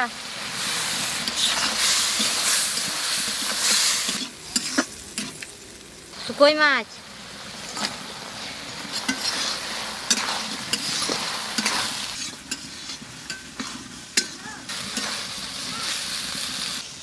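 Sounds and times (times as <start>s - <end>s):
gravy sizzling: 0.0s - 17.0s.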